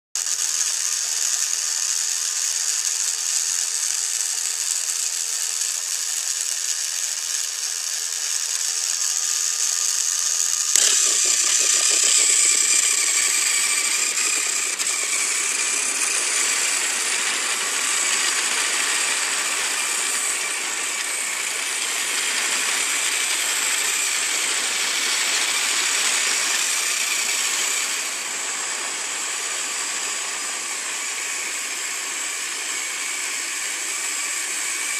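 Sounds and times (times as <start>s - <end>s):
toy train motor whirring: 0.2s - 34.9s.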